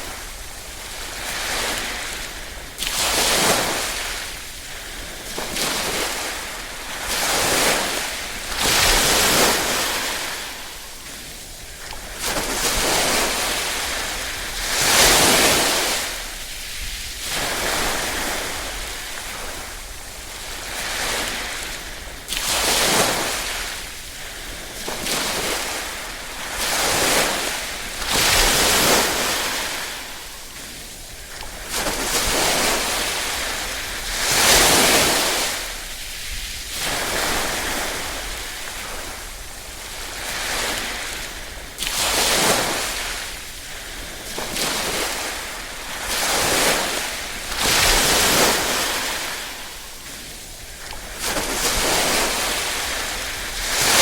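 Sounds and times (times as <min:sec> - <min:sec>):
small waves lapping on shore: 0:00.0 - 0:54.0.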